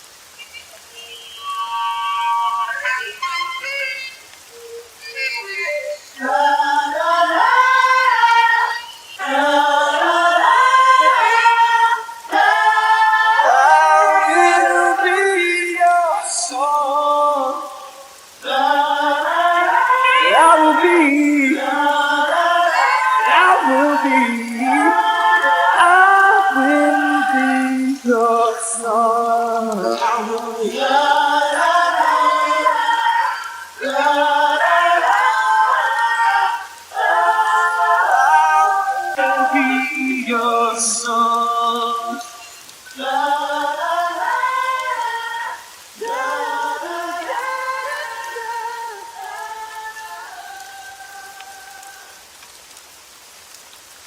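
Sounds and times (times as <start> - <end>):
wordless a cappella singing: 0.0 - 54.0.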